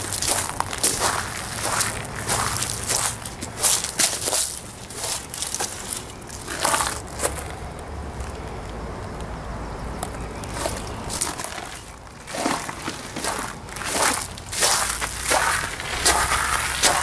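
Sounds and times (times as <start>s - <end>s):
footsteps crunching on gritty ground: 0.0s - 8.4s, 10.0s - 17.0s.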